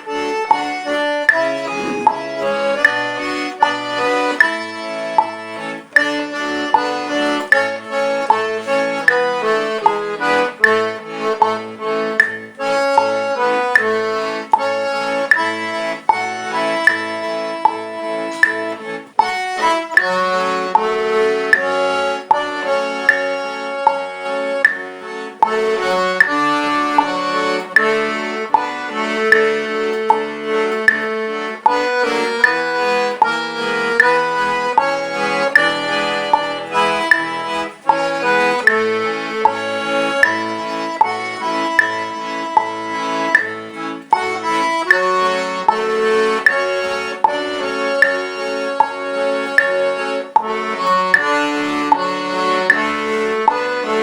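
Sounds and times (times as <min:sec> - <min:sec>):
solo accordion melody: 0:00.0 - 0:54.0.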